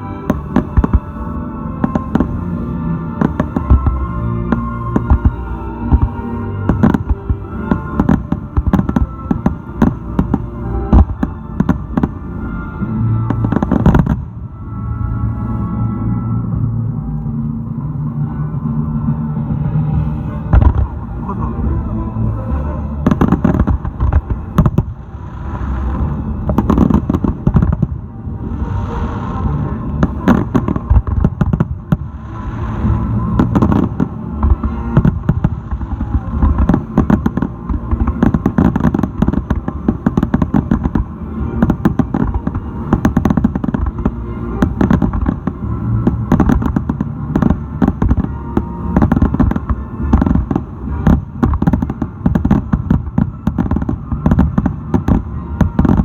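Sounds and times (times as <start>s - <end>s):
fireworks booms and crackles: 0.0s - 15.3s, 18.0s - 56.0s.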